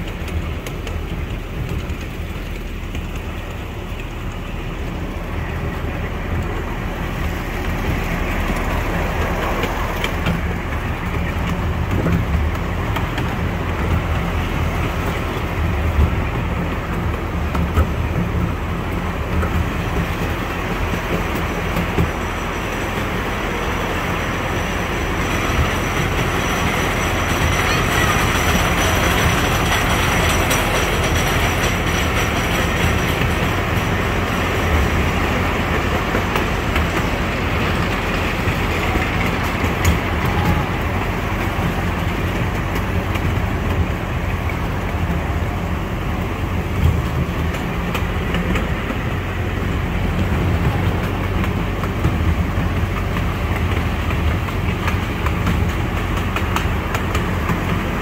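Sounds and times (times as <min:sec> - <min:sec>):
sharp clicks of train wheels: 0:00.0 - 0:58.0
train wheels rumbling on rails: 0:00.0 - 0:58.0.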